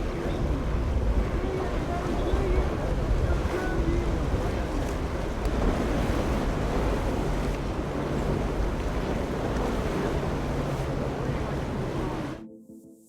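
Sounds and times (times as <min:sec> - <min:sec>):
waves washing: 0:00.0 - 0:12.4
wind buffeting microphone: 0:00.0 - 0:12.4
boat engine drone: 0:00.0 - 0:12.5.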